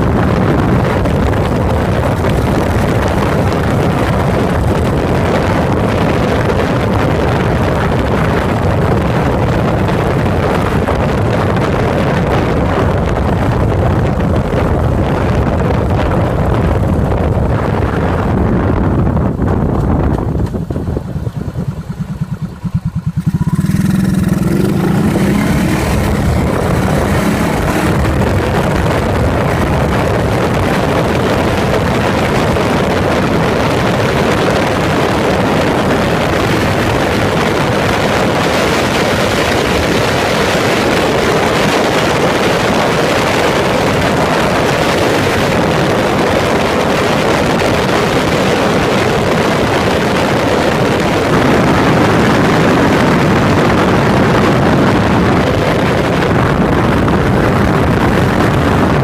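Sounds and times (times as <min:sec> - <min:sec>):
motorcycle engine pulling away: 0:00.1 - 0:59.0.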